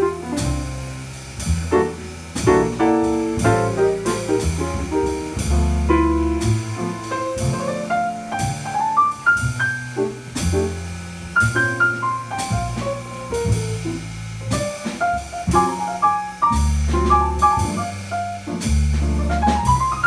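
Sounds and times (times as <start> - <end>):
drum kit cymbals: 0.0 - 20.0
grand piano playing jazz: 0.0 - 20.0
walking double bass: 0.0 - 20.0.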